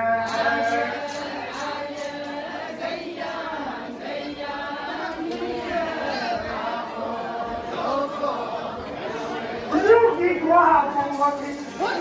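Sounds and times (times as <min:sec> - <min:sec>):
group chanting in unison: 0:00.0 - 0:10.1.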